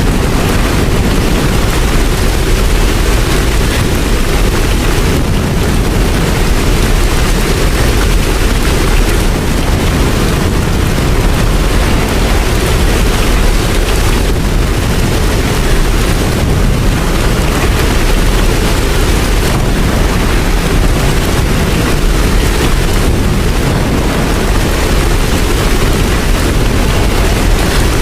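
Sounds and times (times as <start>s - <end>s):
deep rumble: 0.0s - 28.0s
heavy rain falling: 0.0s - 28.0s.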